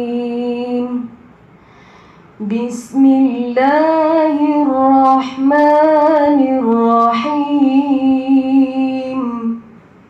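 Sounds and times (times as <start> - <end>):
woman chanting: 0.0 - 1.2, 2.4 - 9.8.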